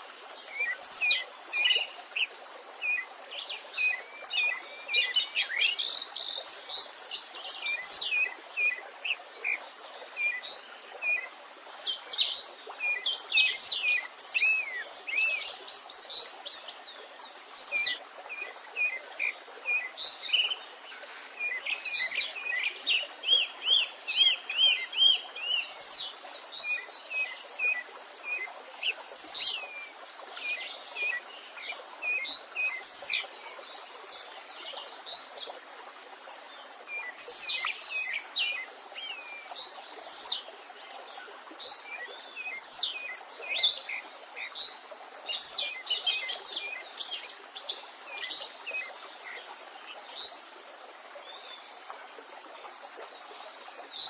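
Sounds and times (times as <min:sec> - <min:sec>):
songbirds singing and chirping: 0:00.3 - 0:50.5.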